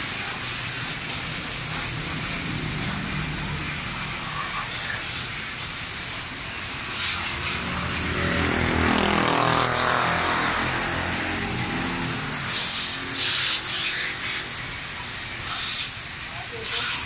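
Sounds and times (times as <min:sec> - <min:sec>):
vehicle passing by: 0:00.0 - 0:16.2
hose water spraying: 0:00.0 - 0:17.0.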